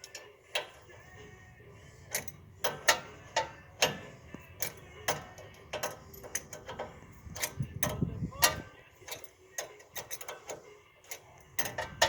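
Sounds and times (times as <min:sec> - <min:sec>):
wrenches clicking on metal: 0:00.0 - 0:01.2, 0:02.1 - 0:12.0.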